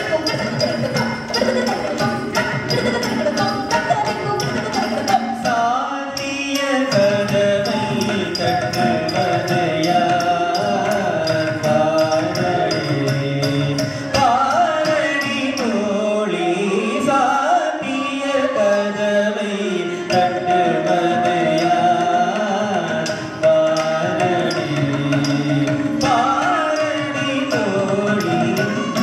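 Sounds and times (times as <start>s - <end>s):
sharp rhythmic strikes: 0.0s - 16.2s, 20.0s - 29.0s
person singing with ornaments: 0.0s - 29.0s.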